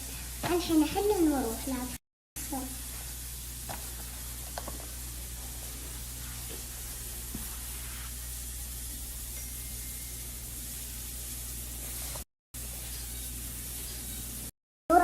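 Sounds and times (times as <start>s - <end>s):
low electrical hum: 0.0s - 15.0s
steady hiss: 2.4s - 14.5s.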